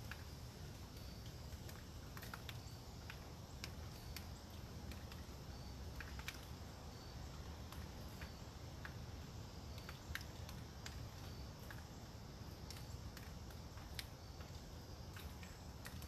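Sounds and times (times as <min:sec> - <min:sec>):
water drips through leaves: 0:00.0 - 0:16.0.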